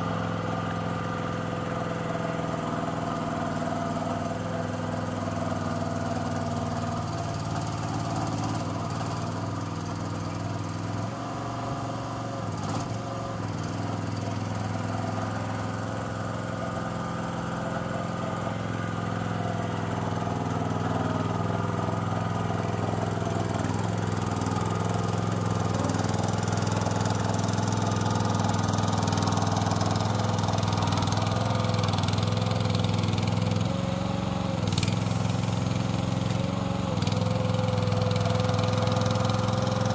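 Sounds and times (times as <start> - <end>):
mini dumper engine running: 0.0 - 39.9.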